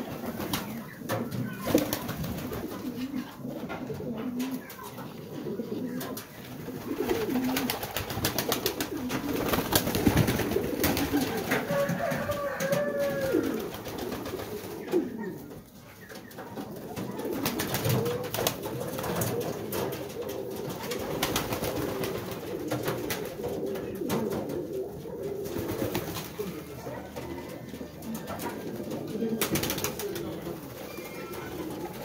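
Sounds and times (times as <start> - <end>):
pigeons cooing: 0.0 - 32.0.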